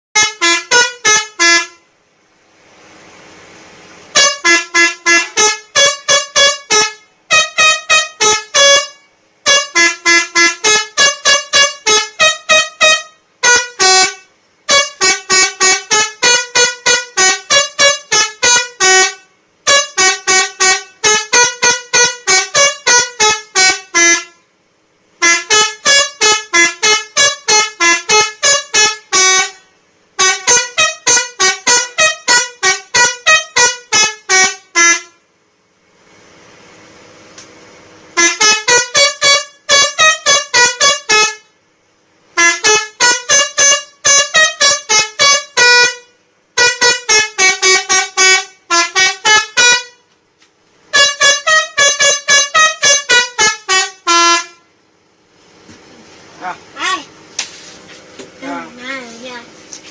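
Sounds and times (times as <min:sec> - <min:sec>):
multi-tone bus horn melody: 0:00.1 - 0:02.0, 0:03.2 - 0:36.8, 0:38.0 - 0:50.1, 0:50.8 - 0:55.0.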